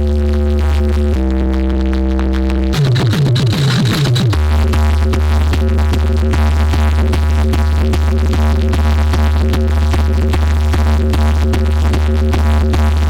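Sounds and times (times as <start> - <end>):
electronic dance music: 0.8 - 13.0.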